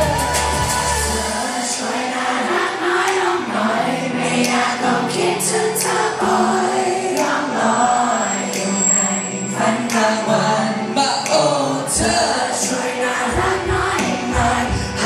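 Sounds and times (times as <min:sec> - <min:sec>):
group of voices singing: 0:00.0 - 0:15.0
pop backing track: 0:00.0 - 0:15.0.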